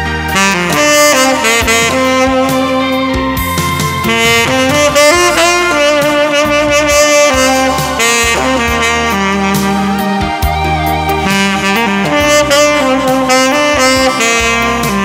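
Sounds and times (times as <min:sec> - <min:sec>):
backing track with bass and beat: 0:00.0 - 0:15.0
saxophone melody: 0:00.0 - 0:15.0.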